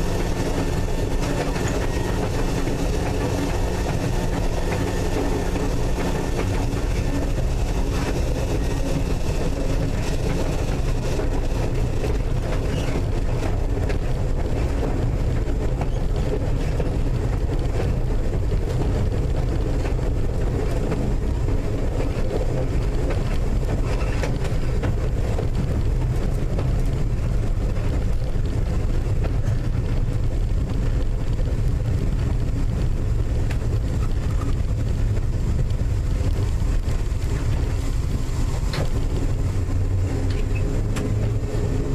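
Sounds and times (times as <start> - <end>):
train car rumbling on track: 0.0 - 41.9.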